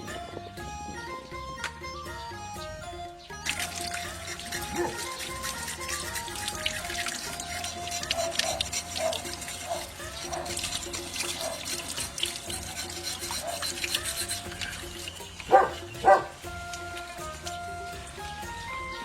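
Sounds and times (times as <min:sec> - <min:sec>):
water splashing and sloshing: 0:03.4 - 0:18.9.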